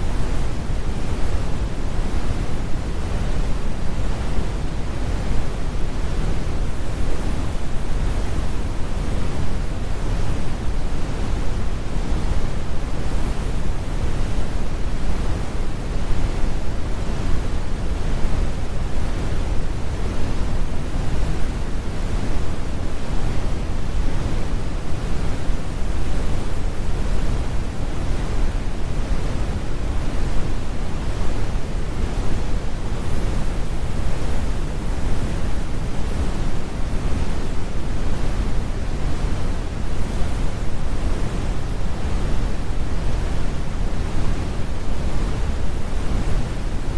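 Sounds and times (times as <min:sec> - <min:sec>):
brown noise: 0:00.0 - 0:46.9.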